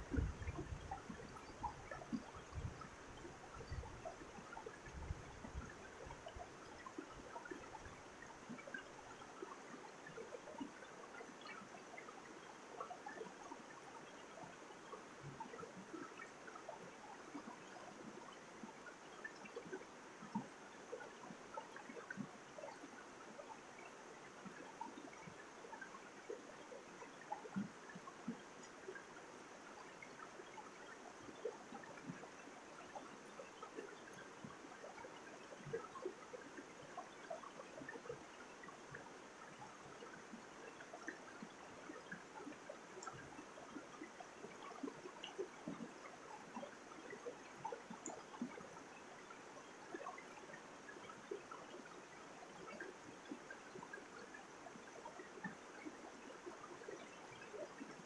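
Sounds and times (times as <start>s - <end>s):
stream flowing over boulders: 0.0s - 58.0s.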